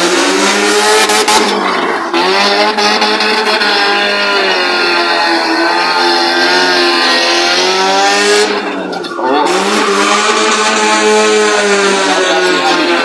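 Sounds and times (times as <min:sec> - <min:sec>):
car engine revving hard: 0:00.0 - 0:13.0
tyres skidding: 0:00.0 - 0:13.0.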